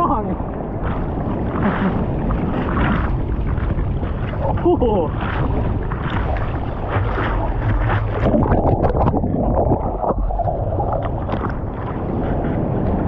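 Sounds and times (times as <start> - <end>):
water splashes: 0.0 - 13.0
waves breaking: 0.0 - 13.0.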